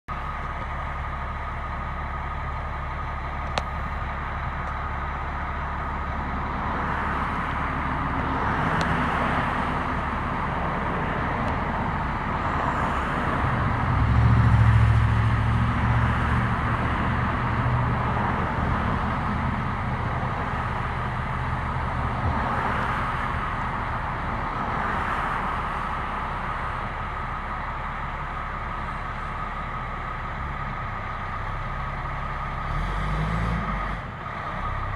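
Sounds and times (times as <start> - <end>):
heavy engine rumble: 0.1 - 34.9
vehicle engines passing by: 0.1 - 34.9.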